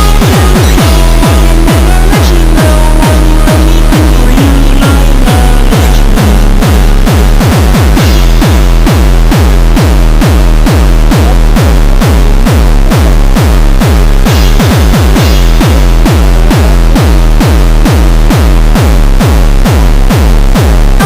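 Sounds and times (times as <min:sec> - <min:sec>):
electronic dance music: 0:00.0 - 0:21.0
heavy kick drum: 0:00.0 - 0:21.0.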